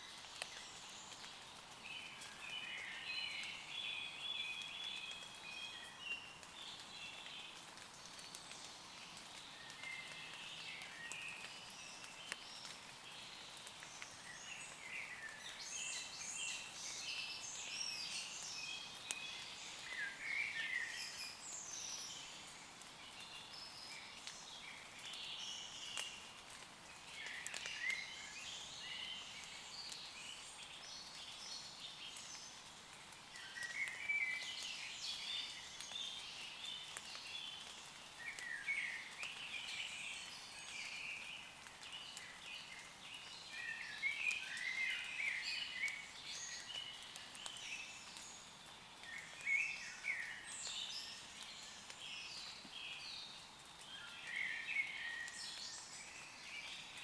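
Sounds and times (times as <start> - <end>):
light rain pattering on leaves: 0.0 - 57.0
songbirds chirping and trilling: 0.1 - 57.0
water dripping: 0.1 - 57.0.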